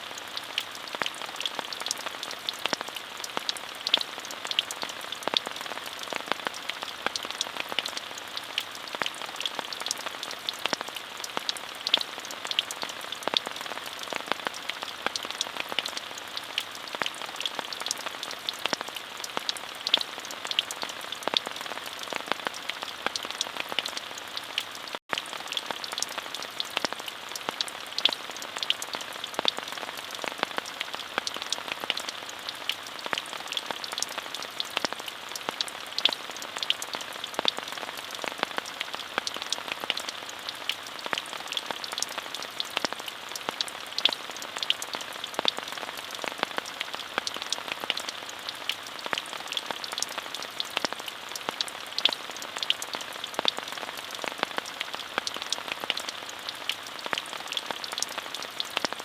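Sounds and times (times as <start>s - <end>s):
raindrops ticking on a surface: 0.0s - 59.0s
steady rain falling: 0.0s - 59.0s.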